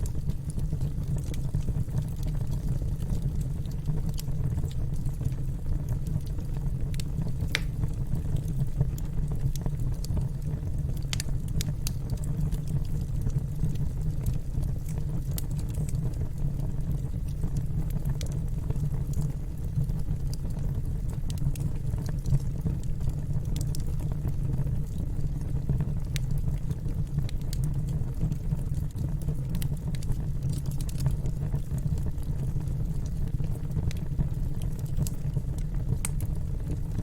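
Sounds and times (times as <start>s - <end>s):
fire popping and snapping: 0.0s - 37.0s
wood fire crackling: 0.0s - 37.0s.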